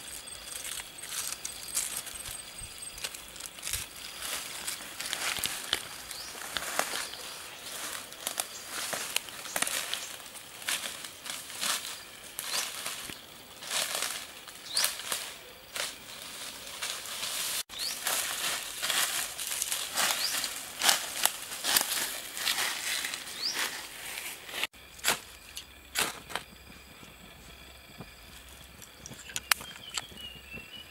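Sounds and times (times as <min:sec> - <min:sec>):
dry stalks crackling: 0:00.0 - 0:30.9
footsteps in dry grass: 0:00.0 - 0:30.9.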